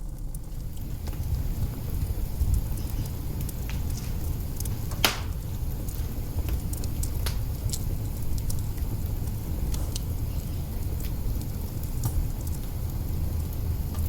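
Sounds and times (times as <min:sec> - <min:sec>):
log fire crackling: 0:00.0 - 0:14.0.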